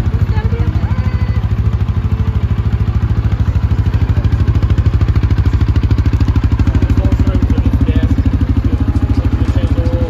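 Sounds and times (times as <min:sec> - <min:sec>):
atv engine idling: 0:00.0 - 0:10.0.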